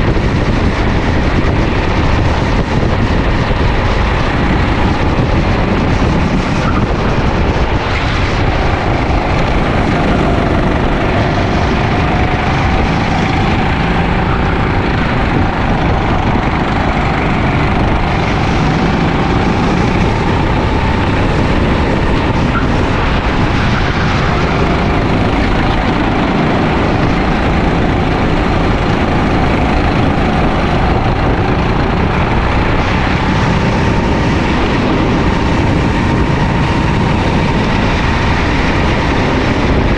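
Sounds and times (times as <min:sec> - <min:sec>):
kart engine revving: 0:00.0 - 0:39.9
wind and road noise: 0:00.0 - 0:39.9.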